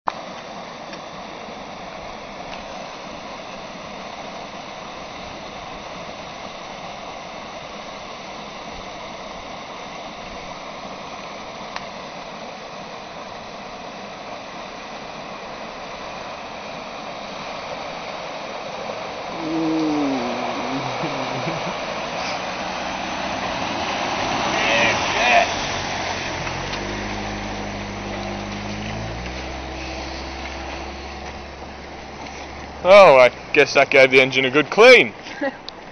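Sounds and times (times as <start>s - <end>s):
water rushing over weir: 0.1s - 35.9s
car tyres splashing through water: 1.4s - 35.9s.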